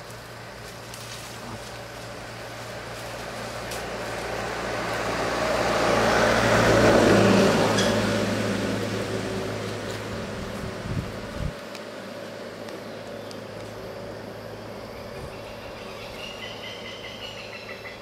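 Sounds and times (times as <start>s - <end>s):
motor vehicle passing by: 0.6s - 18.0s.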